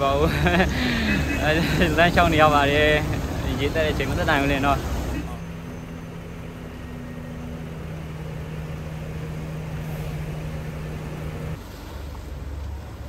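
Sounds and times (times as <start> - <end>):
bus engine idling: 0.0 - 13.0
deep noisy rumble: 0.0 - 13.0.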